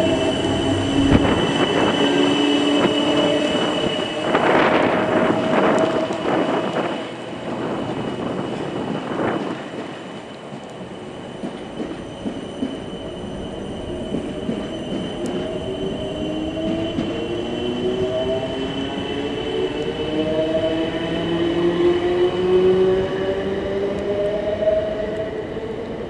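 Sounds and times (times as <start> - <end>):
train wheel rumble: 0.0 - 26.0.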